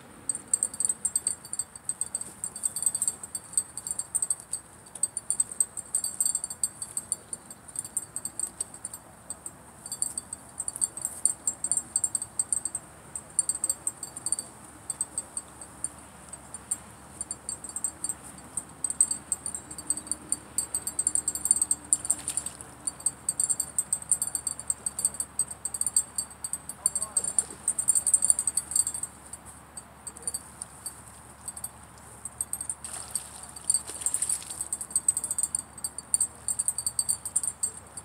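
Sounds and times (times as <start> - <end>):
faint outdoor hiss: 0.0 - 38.0
insects chirping: 0.3 - 38.0.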